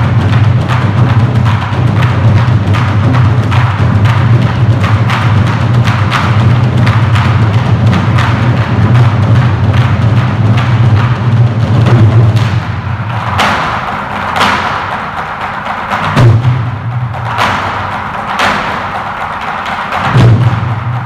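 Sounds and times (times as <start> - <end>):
barrel drums beaten with sticks: 0.0 - 21.0.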